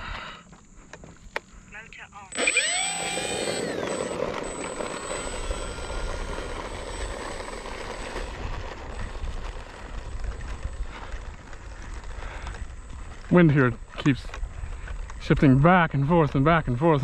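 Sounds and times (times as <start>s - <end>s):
electric motor and propeller whine: 0.6s - 17.0s.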